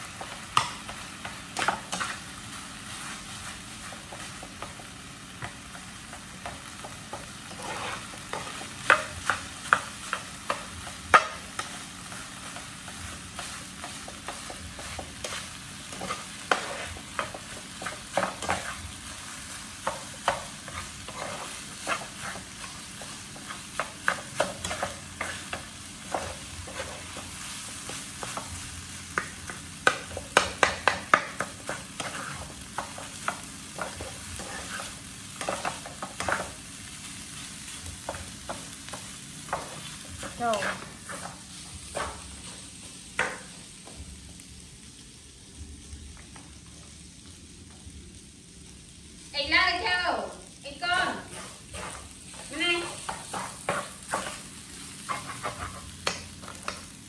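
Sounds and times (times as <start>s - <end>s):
rice sizzling in a frying pan: 0.0s - 57.0s
spatula scraping and tapping pan: 0.1s - 36.6s, 37.3s - 44.0s, 51.2s - 57.0s.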